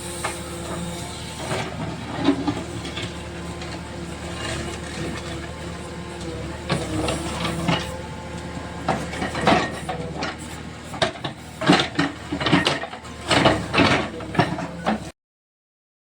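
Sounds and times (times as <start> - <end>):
diesel engine running: 0.0 - 15.1
knocks and clattering impacts: 0.2 - 15.1.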